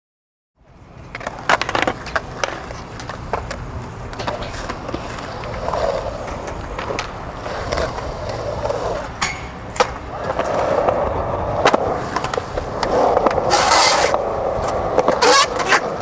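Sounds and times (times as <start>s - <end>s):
skateboard wheels rolling on concrete: 0.6s - 16.0s
skateboard clacking on concrete: 1.0s - 16.0s.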